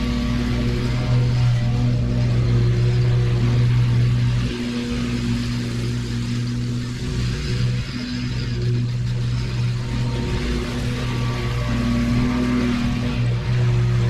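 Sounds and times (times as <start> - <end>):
small petrol engine running: 0.0 - 14.0.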